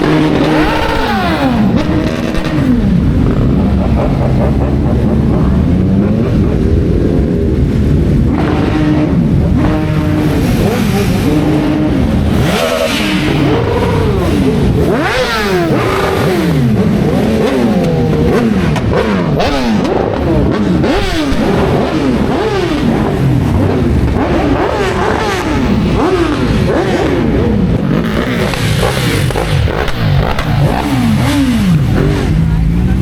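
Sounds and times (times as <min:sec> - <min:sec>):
motorcycles revving past: 0:00.0 - 0:33.0.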